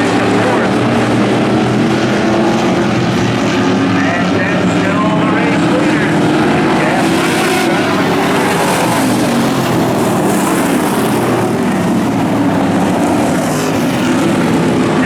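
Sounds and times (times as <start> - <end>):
race car engines at speed: 0.0 - 15.0.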